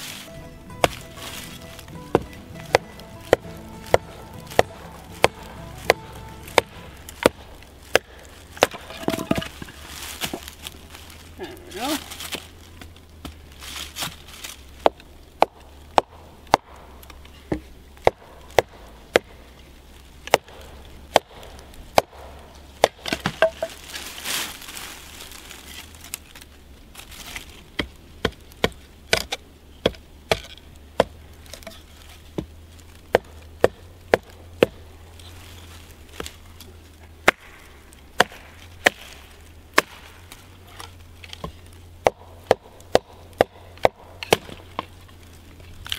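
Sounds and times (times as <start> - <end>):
axe chopping wood: 0.1 - 10.8, 11.7 - 19.6, 20.2 - 24.0, 27.3 - 35.0, 36.1 - 45.9.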